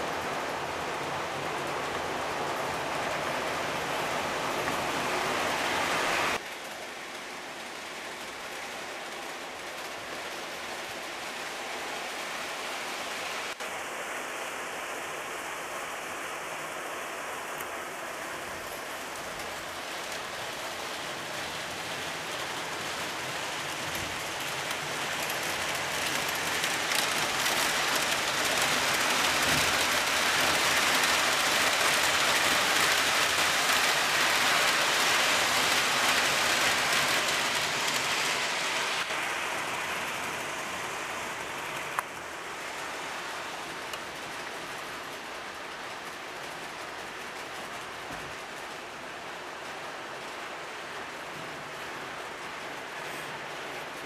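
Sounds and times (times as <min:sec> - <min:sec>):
model train wheels on rail: 0:00.0 - 0:54.0.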